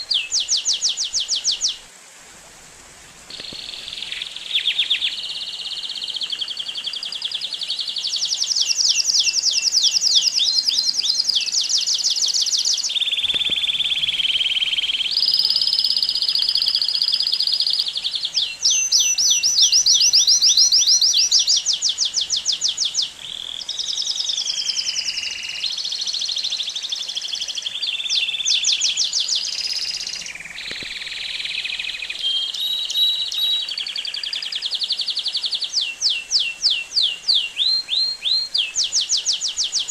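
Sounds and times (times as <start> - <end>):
canary singing trills: 0.0 - 1.8, 3.3 - 39.9.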